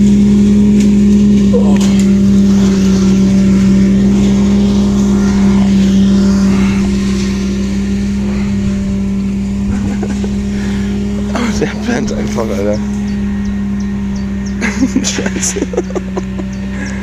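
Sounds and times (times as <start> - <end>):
mower engine droning: 0.0 - 17.0.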